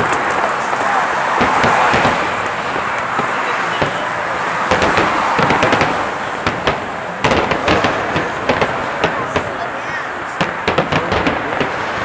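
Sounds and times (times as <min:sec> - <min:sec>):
firework bangs and pops: 0:00.0 - 0:09.7, 0:10.3 - 0:12.0
steady background noise: 0:00.0 - 0:12.0.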